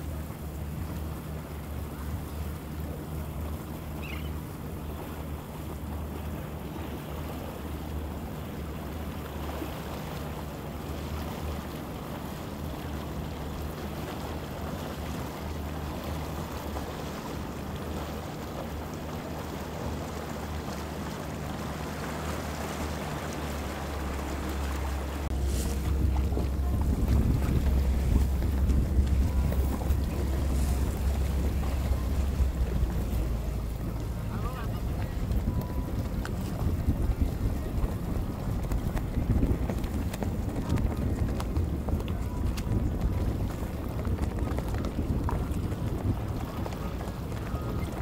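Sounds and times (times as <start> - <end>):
boat engines humming: 0.0 - 48.0
water churning: 0.0 - 48.0.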